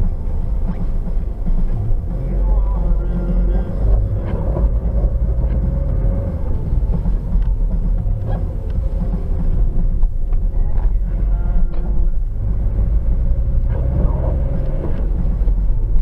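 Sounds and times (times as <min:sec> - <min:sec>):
car driving on snowy road: 0:00.0 - 0:16.0.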